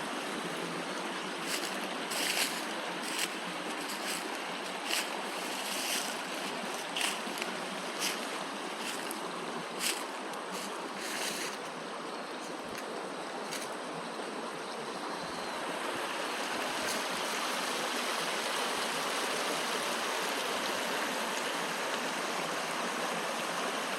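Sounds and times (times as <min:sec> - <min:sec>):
mountain stream flowing: 0:00.0 - 0:23.9.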